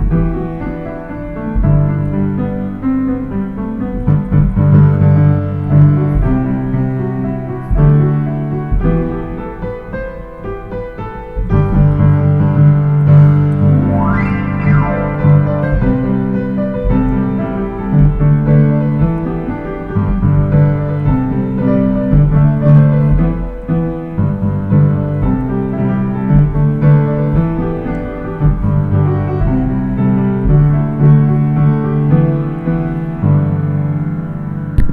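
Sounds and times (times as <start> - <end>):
piano playing slow melody: 0.0 - 34.9.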